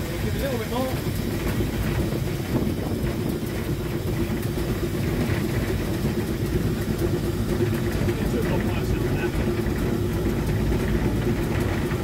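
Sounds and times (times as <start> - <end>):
constant hum: 0.0 - 12.0
steam locomotive rumble: 0.0 - 12.0.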